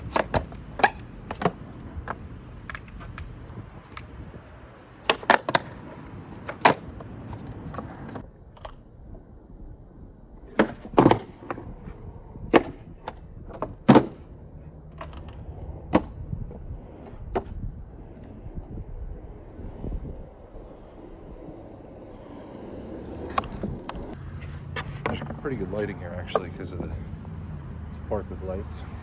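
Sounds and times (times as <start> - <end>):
skateboard clacking on ground: 0.0 - 9.0, 10.4 - 26.9
skateboard rolling on concrete: 0.0 - 29.0.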